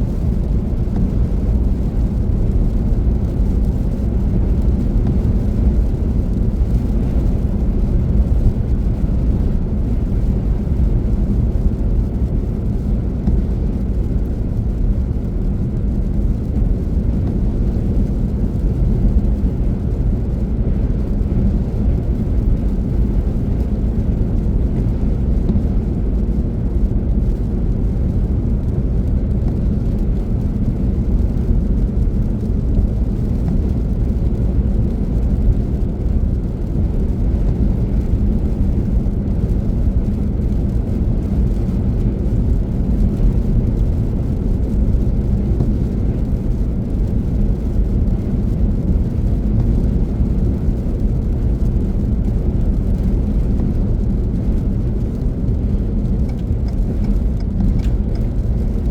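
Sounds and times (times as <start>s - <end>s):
car driving at speed: 0.0s - 58.9s.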